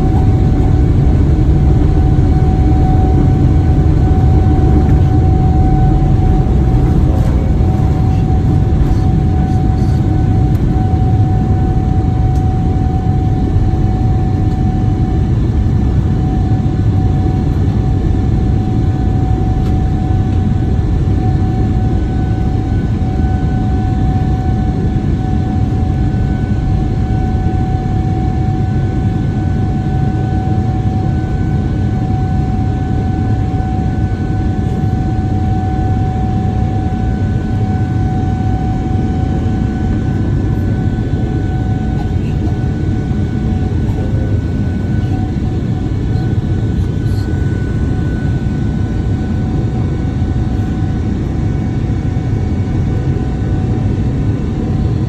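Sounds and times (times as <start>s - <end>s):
jet engine whine: 0.0s - 55.0s
jet engines deep rumble: 0.0s - 55.0s.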